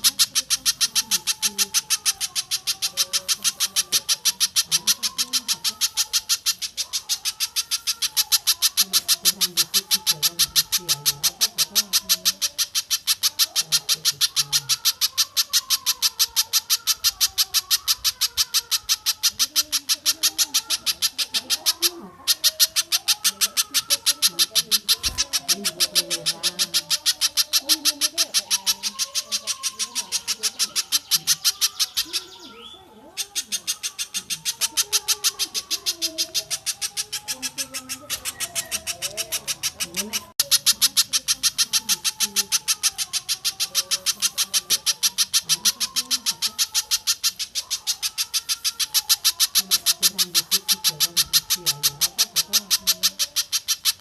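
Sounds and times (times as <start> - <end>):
warbled bird notes: 0.0 - 54.0.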